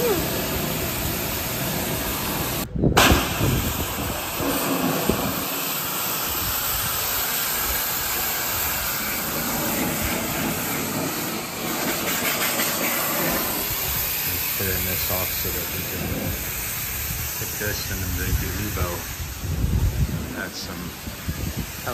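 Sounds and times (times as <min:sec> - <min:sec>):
pressure washer spraying wood: 0:00.0 - 0:21.9.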